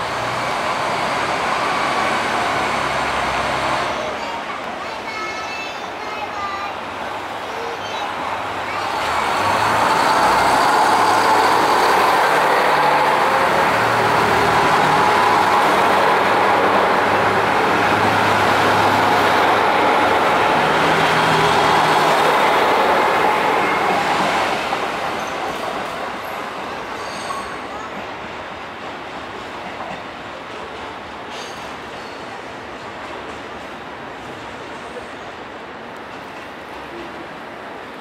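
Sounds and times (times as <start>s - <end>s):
train wheels on rails: 0.0s - 38.0s.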